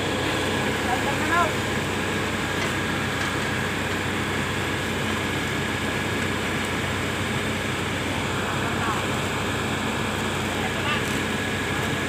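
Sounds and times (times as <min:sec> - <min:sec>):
heavy diesel machinery running: 0:00.0 - 0:12.0.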